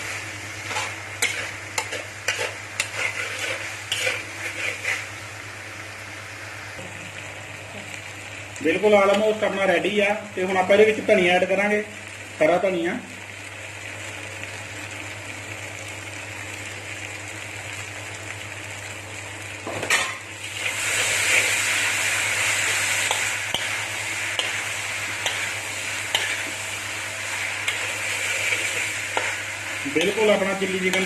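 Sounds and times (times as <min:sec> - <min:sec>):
chicken sizzling in a pan: 0:00.0 - 0:31.0.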